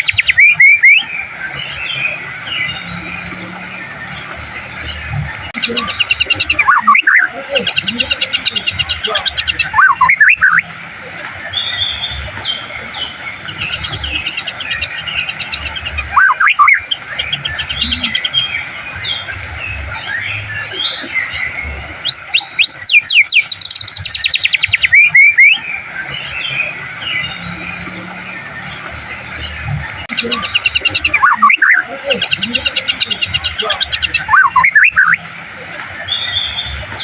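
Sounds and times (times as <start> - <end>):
bird singing chirps and whistles: 0.0 - 37.0
fast repeated bird notes: 0.0 - 37.0.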